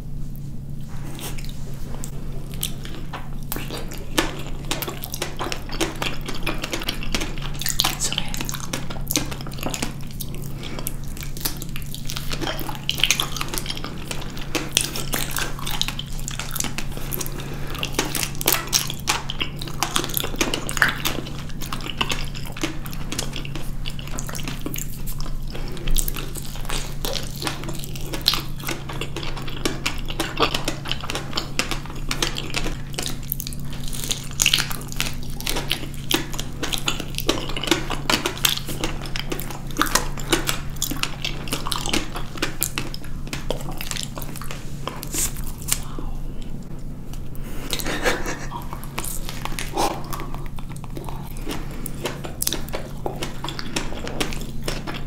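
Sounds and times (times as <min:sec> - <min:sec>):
people chewing figs: 0:00.0 - 0:55.0
steady low hum: 0:00.0 - 0:55.0.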